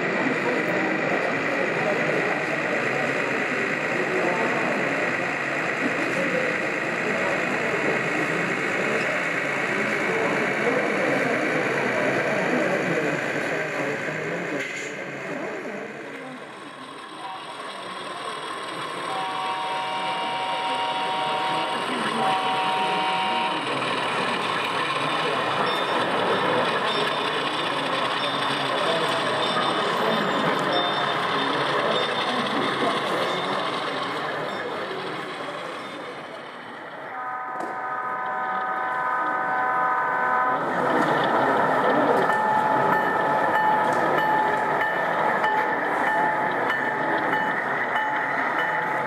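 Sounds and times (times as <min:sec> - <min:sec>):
model diesel engine whine: 0:00.0 - 0:49.0
murmur of indistinct voices: 0:00.0 - 0:49.0.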